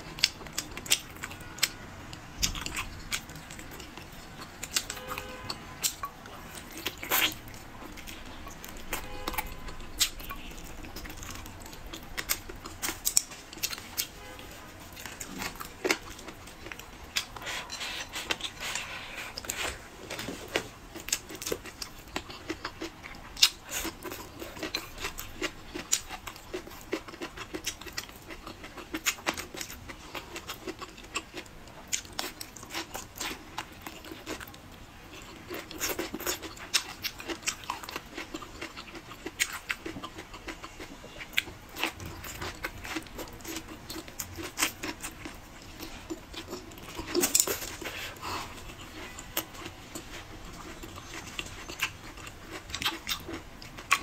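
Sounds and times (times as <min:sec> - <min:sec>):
person chewing and lip-smacking: 0:00.0 - 0:54.0.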